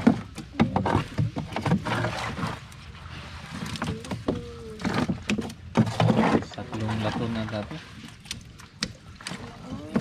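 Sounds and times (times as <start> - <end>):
wet fish slapping and knocking: 0.0 - 10.0.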